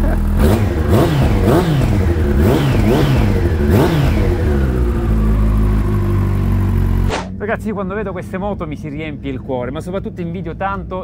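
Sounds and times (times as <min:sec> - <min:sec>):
motorcycle engine revving and idling: 0:00.0 - 0:11.0.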